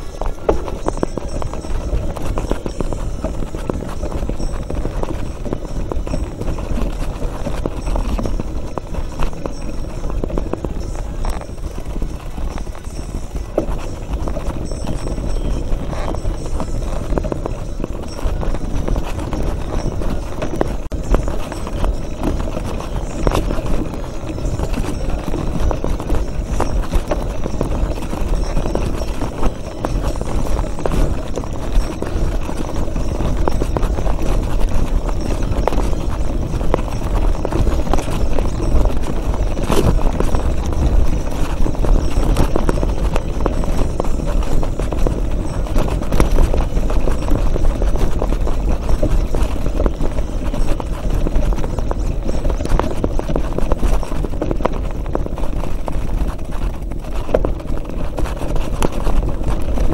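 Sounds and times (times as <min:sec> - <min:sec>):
bike rattling over stones: 0:00.0 - 0:59.9.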